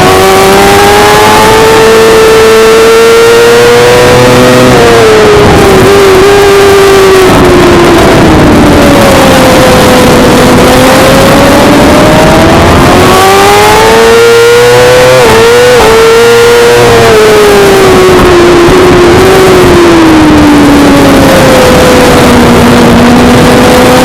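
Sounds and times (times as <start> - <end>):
motorcycle engine revving: 0.0 - 24.0
wind noise: 0.0 - 24.0.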